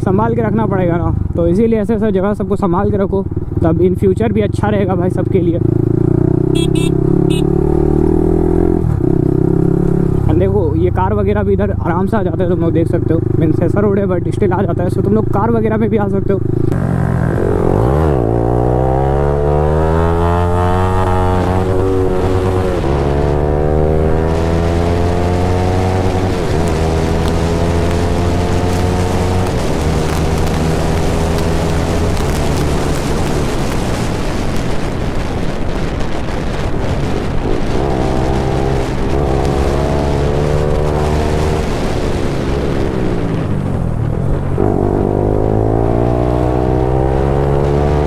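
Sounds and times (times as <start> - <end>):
motorcycle engine accelerating: 3.2 - 10.7, 11.3 - 48.0.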